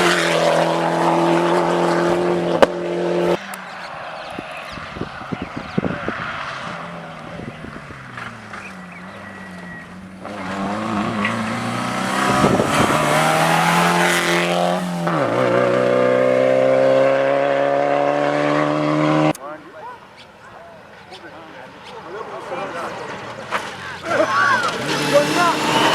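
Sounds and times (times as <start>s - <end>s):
rally car engine at high revs: 0.0s - 19.4s, 23.0s - 25.9s
car passing rush: 0.0s - 19.6s, 20.8s - 25.9s.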